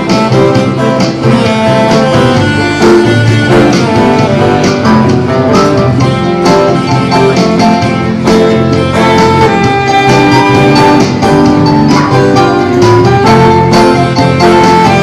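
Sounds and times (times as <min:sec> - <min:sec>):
live band playing instrumental: 0:00.0 - 0:15.0.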